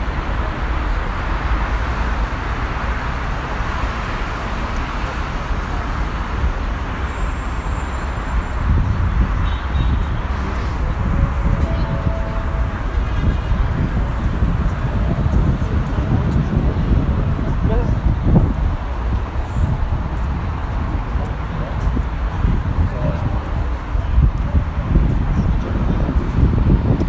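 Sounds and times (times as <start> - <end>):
low traffic rumble: 0.0 - 27.0
passing vehicles: 0.0 - 27.0.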